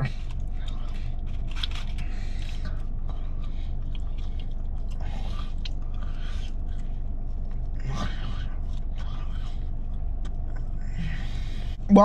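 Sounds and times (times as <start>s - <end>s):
person chewing crunchy food: 0.0s - 11.9s
low hum: 0.0s - 12.0s.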